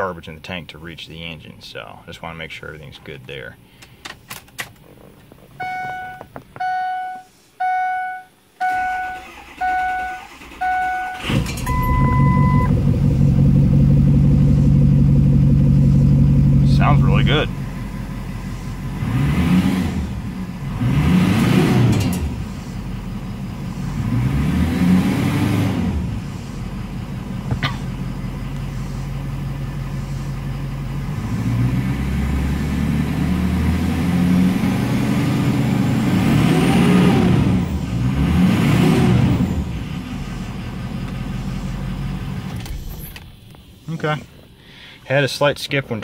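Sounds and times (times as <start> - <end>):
diesel engine idling and revving: 4.9 - 46.0.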